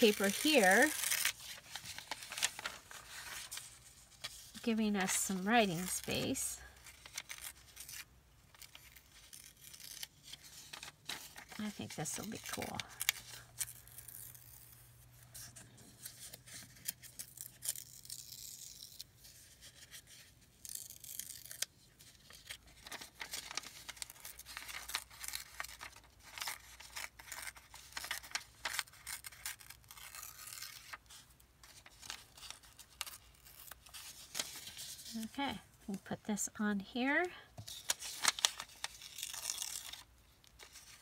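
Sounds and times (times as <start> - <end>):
paper tearing and crinkling: 0.0 - 19.0, 19.6 - 35.3, 37.7 - 41.0.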